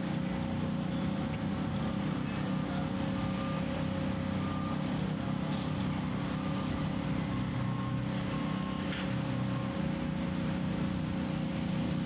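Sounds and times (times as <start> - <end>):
heavy machinery engines droning: 0.0 - 12.0.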